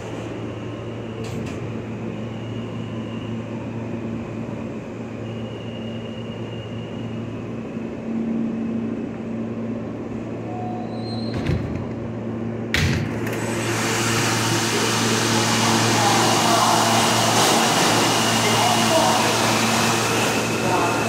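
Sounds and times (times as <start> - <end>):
subway car electrical hum: 0.0 - 21.0.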